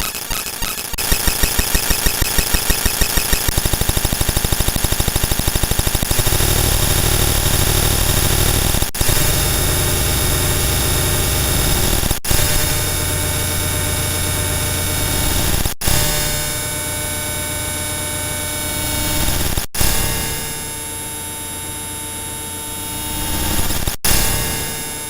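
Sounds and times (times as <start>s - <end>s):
sped up alarm tones buzzing: 0.0s - 25.0s.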